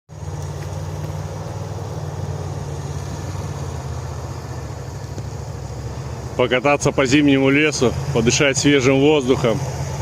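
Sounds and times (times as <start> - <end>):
vehicle engine running steadily: 0.1 - 10.0.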